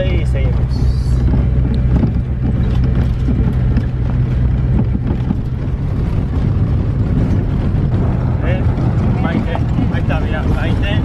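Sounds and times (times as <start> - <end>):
engine and road drone: 0.0 - 11.0.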